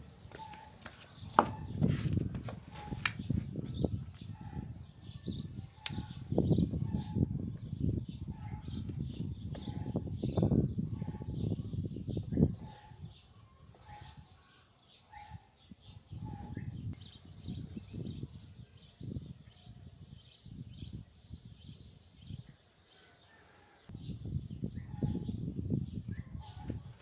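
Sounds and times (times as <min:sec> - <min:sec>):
small birds chirping: 0:00.0 - 0:02.0, 0:02.8 - 0:27.0.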